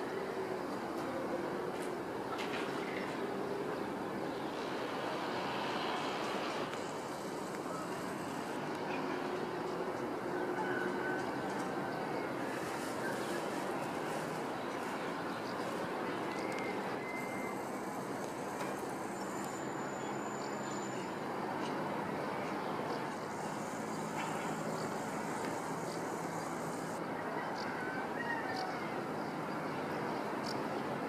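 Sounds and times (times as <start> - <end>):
distant road traffic hum: 0.0 - 31.0.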